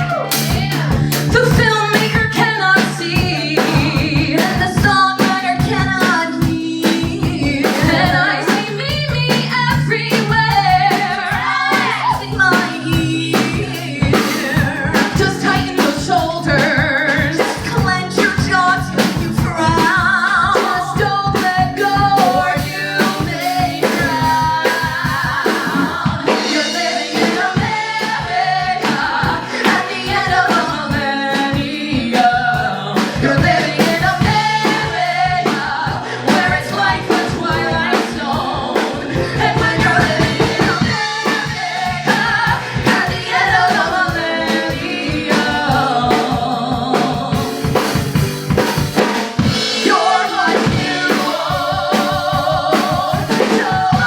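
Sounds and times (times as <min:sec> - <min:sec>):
live rock band with singing: 0:00.0 - 0:54.0.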